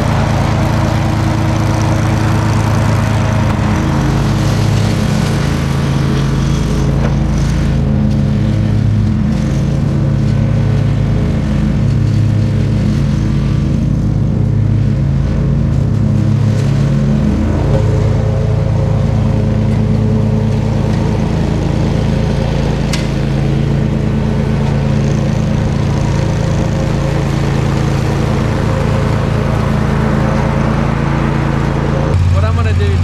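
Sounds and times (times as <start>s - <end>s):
mower engine running: 0.0s - 33.0s.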